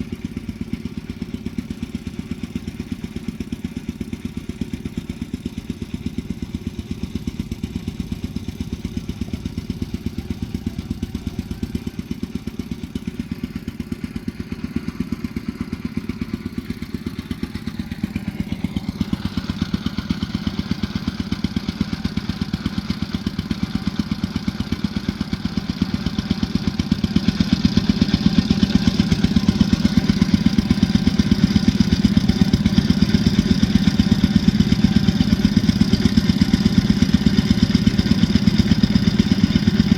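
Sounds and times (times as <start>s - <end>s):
engine running with rapid pulsing: 0.0s - 39.9s.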